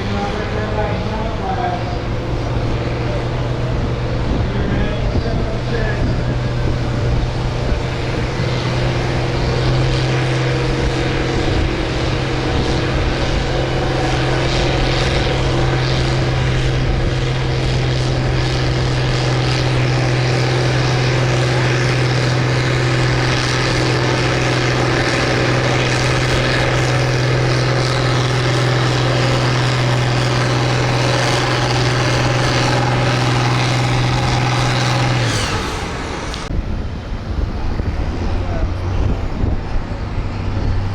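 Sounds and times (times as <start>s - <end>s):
tractor engine at full throttle: 0.0s - 40.9s.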